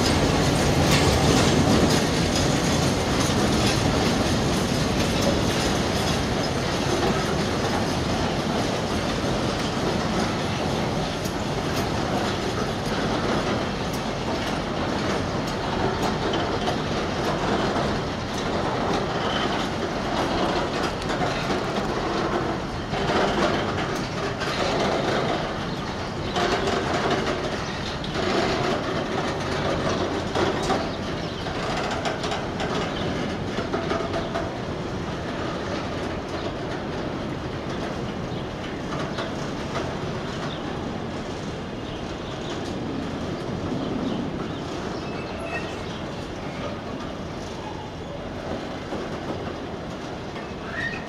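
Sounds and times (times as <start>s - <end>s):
freight wagons rumbling on rails: 0.0s - 51.0s.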